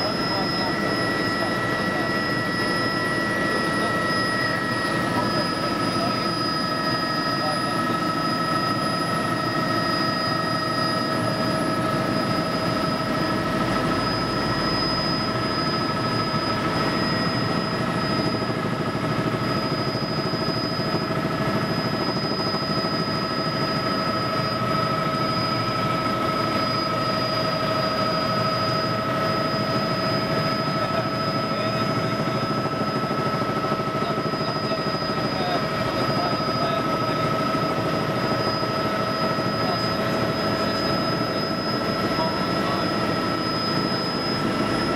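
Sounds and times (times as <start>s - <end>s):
helicopter engine and rotor noise: 0.0s - 44.9s
high-pitched whining tones: 0.0s - 44.9s.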